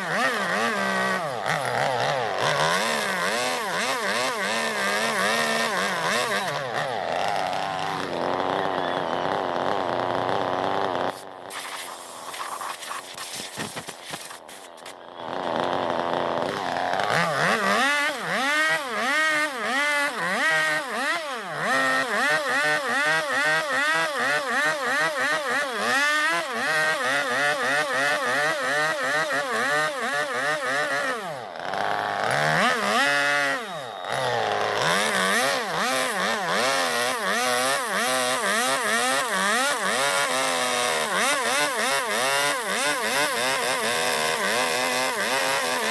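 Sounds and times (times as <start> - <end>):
chainsaw revving into log: 0.0 - 45.9.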